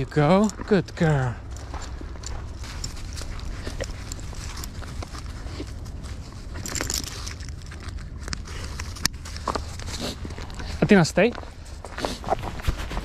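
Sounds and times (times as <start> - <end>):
clicks and rustles of gloves: 0.0 - 13.0.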